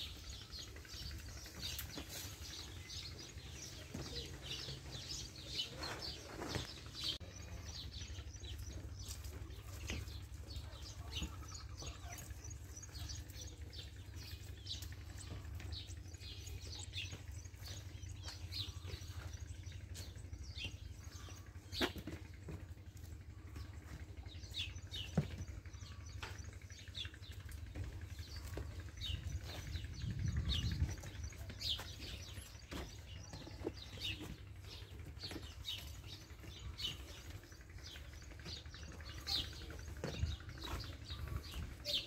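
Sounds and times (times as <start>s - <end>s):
small birds chirping: 0.0s - 42.0s
steady low rumble: 6.6s - 42.0s.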